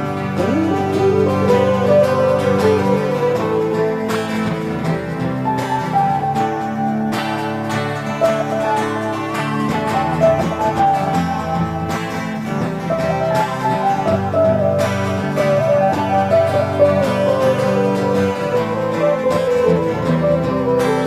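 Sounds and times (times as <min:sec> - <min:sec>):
plucked guitar melody: 0:00.0 - 0:21.0.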